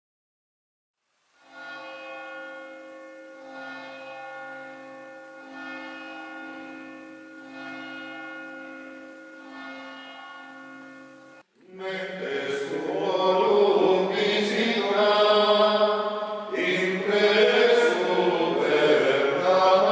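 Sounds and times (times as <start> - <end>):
church bells ringing slowly: 1.5 - 11.4, 12.6 - 19.9.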